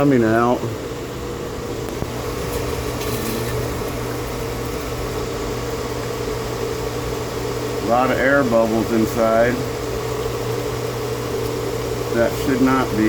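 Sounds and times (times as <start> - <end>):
pool pump motor humming: 0.0 - 13.0.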